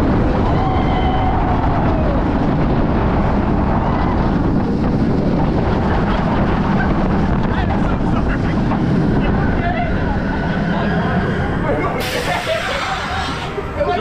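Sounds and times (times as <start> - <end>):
wind roaring over microphone: 0.0 - 14.0.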